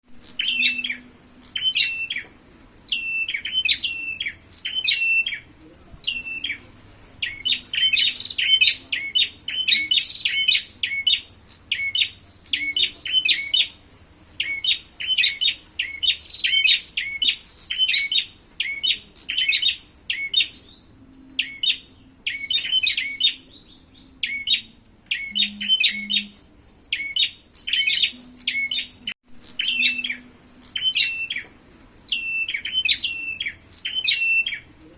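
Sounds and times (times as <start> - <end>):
songbird sharp chirp phrases: 0.1 - 34.9.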